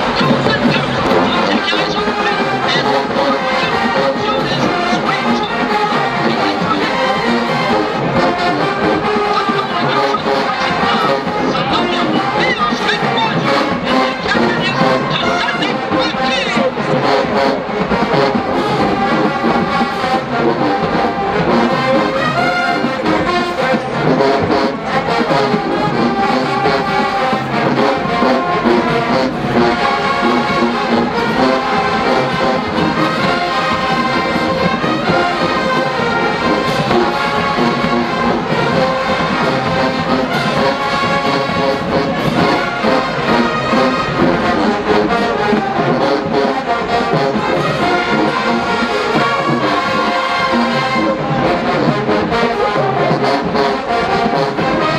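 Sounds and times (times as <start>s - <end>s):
drumline percussion: 0.0s - 54.9s
marching band brass: 0.0s - 54.9s.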